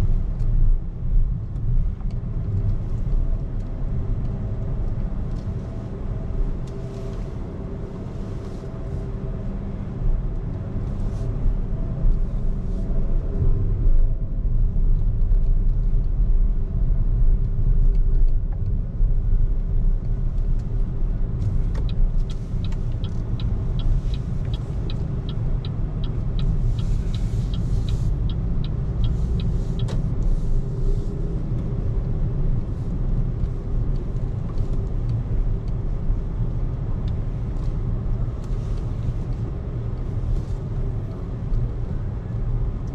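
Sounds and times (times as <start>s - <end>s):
road and tyre noise: 0.0s - 42.9s.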